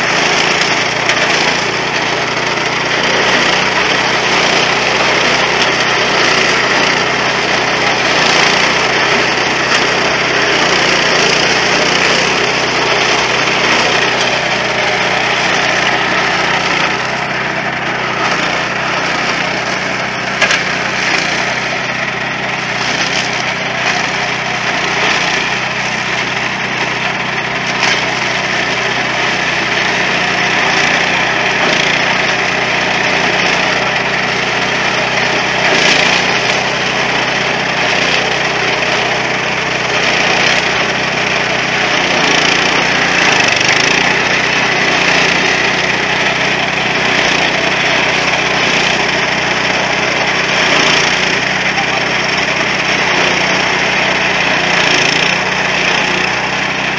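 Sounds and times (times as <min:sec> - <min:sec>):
small engine running under load: 0:00.0 - 0:56.9.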